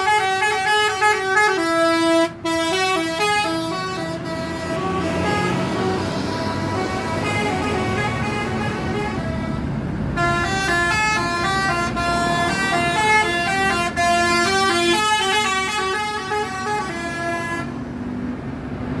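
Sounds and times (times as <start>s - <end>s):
multi-tone air horn tune: 0.0s - 9.6s, 10.2s - 17.8s
bus engine rumble: 0.0s - 19.0s.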